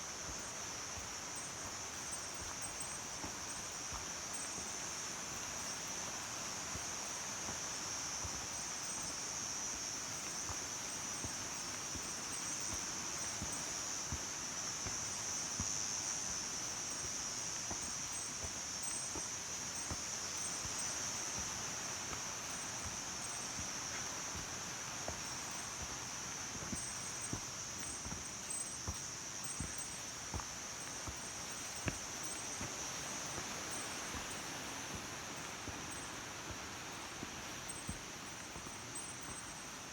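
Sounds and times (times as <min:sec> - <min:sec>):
insects buzzing: 0:00.0 - 0:39.9
stream running over rocks: 0:00.0 - 0:39.9.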